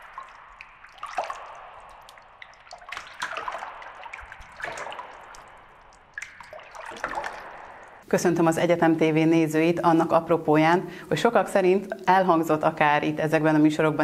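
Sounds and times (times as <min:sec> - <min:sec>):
watery splashes and drips: 0:00.0 - 0:14.0.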